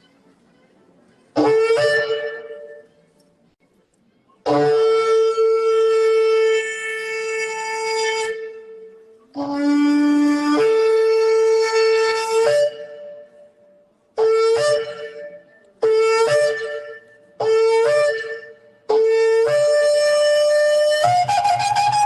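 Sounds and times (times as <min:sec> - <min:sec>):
shofar blasts: 0:01.3 - 0:03.0, 0:04.5 - 0:13.6, 0:14.2 - 0:22.0.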